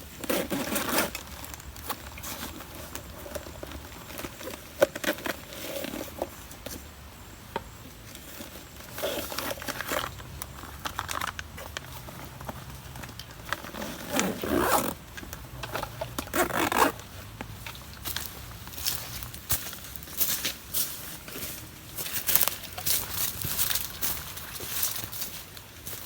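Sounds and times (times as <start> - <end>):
handling rustling and scraping: 0.0 - 26.0.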